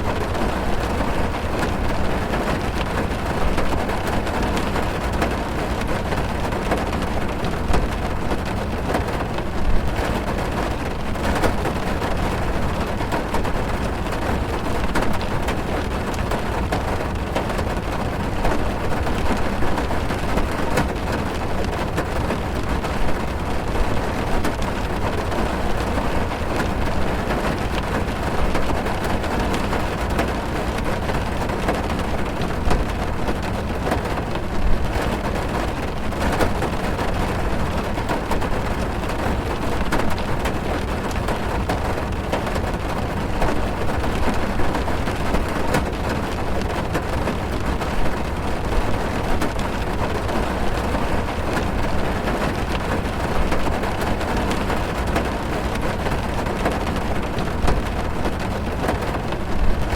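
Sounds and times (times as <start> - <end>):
heavy rain on car roof: 0.0 - 59.9
big raindrop knocks: 0.8 - 59.9.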